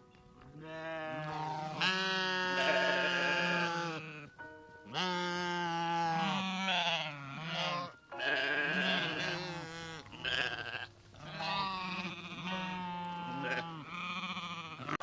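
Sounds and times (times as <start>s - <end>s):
livestock bleating: 0.6s - 15.0s.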